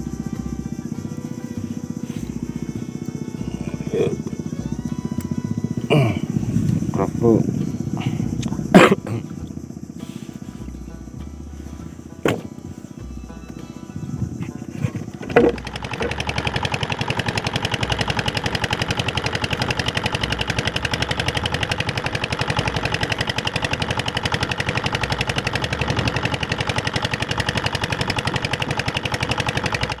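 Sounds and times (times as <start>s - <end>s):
small boat engine popping: 0.0s - 30.0s.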